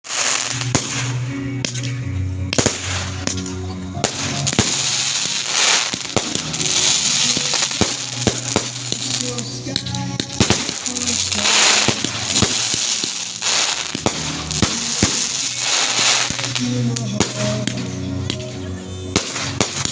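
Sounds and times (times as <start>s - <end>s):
fireworks bangs and crackling: 0.0s - 19.9s
music: 0.0s - 19.9s.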